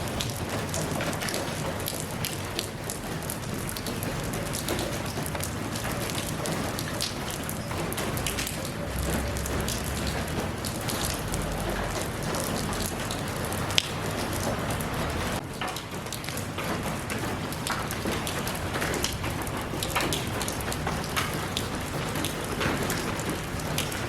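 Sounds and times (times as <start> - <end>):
rain pattering: 0.0 - 24.0
water drips: 0.0 - 24.0.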